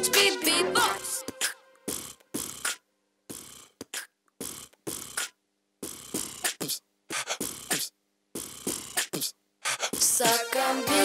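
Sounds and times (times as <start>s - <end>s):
boy beatboxing: 0.1s - 11.0s.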